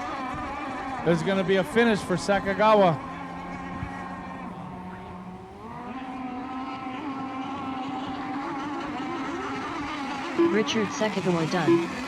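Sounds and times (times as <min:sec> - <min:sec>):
model boat engines racing: 0:00.0 - 0:12.0.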